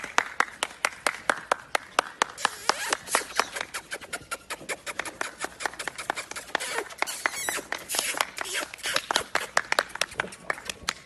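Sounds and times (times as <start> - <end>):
hands clapping: 0.0 - 4.2, 4.8 - 11.0.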